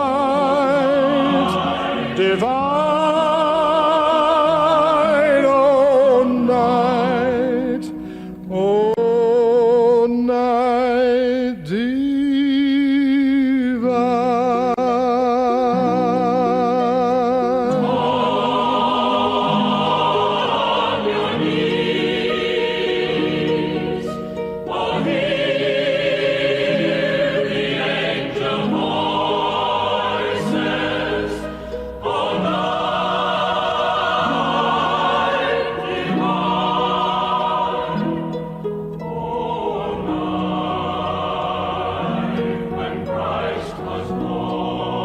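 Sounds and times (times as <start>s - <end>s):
choir singing sustained chords: 0.0s - 14.8s, 15.5s - 45.0s.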